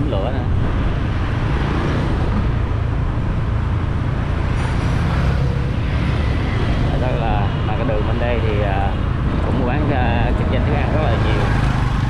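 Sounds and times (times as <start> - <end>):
engine and road noise: 0.0 - 12.0
street traffic: 0.0 - 12.0.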